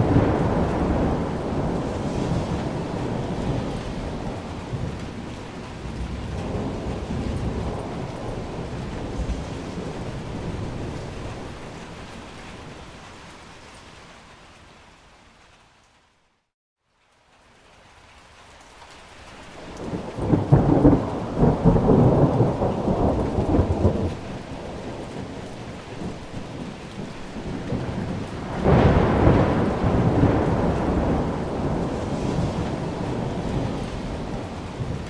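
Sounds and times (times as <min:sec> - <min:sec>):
rolling thunder: 0:00.0 - 0:12.8, 0:19.6 - 0:35.0
steady rain: 0:00.0 - 0:35.0.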